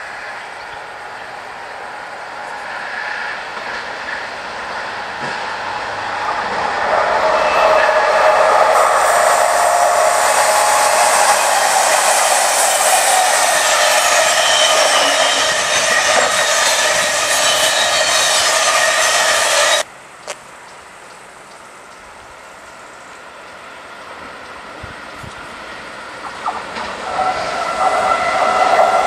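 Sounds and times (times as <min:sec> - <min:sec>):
train passing with rail noise: 0:00.0 - 0:29.0.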